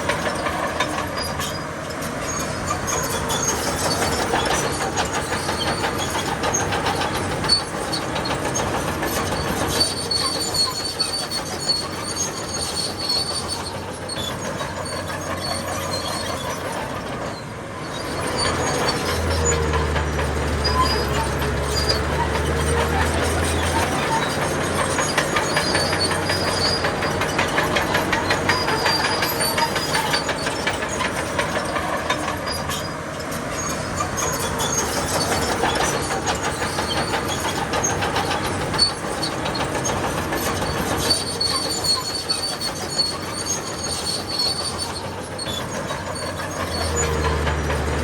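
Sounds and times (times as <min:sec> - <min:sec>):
bulldozer tracks clanking: 0:00.0 - 0:48.0
bulldozer working: 0:00.0 - 0:48.0
track high-pitched squeals: 0:00.0 - 0:48.0.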